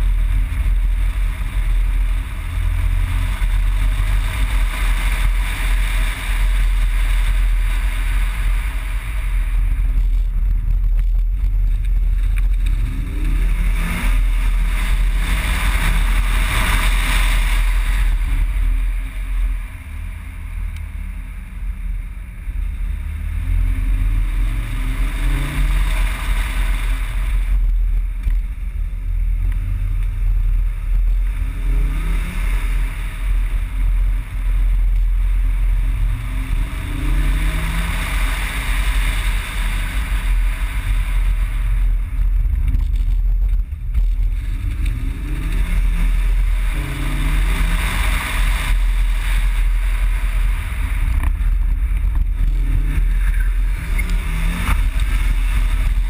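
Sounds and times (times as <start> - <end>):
wind buffeting camera: 0.0 - 21.1, 21.7 - 56.0
car engine revving: 0.0 - 56.0.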